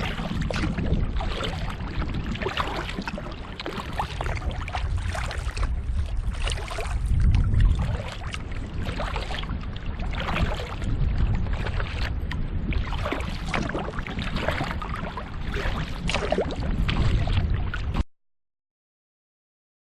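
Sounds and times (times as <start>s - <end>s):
paddle strokes splashing: 0.0s - 18.0s
steady low rumble: 0.0s - 18.0s.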